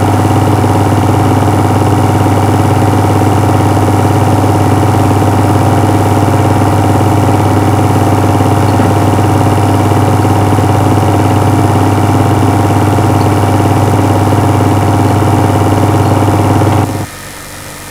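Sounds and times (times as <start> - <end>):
film projector running: 0.0 - 17.1.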